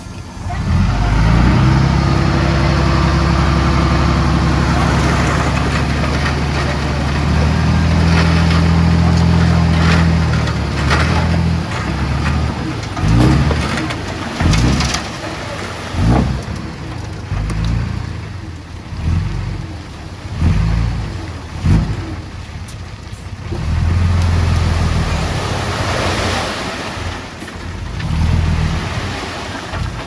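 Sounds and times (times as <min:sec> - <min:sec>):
heavy diesel engine working: 0:00.0 - 0:30.0.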